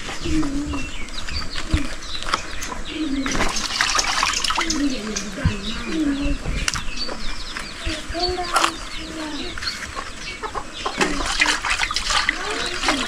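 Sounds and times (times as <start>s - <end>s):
chickens clucking: 0.0s - 13.0s
small birds chirping: 0.0s - 13.0s.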